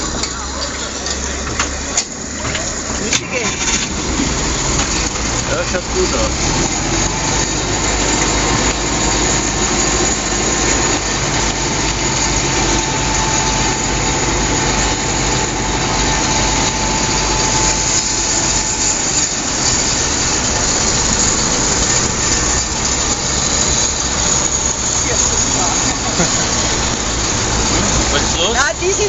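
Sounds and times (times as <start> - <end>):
air-cooled car engine running: 0.0 - 29.0
steady rushing noise: 0.0 - 29.0.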